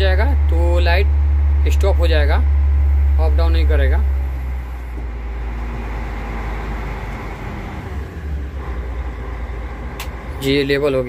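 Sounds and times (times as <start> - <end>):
truck crane diesel engine running: 0.0 - 11.0.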